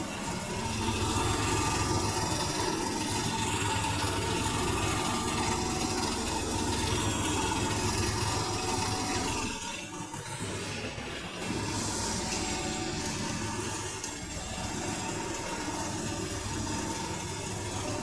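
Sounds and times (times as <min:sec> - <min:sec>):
high motor whine: 0:00.0 - 0:18.0
washing machine rumbling: 0:00.0 - 0:18.0.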